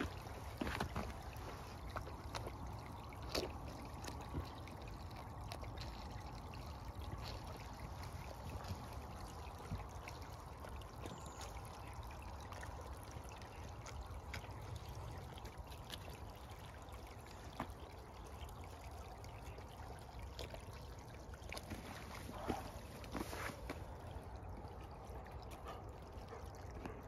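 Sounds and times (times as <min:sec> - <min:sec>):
shallow water trickling: 0:00.0 - 0:27.0.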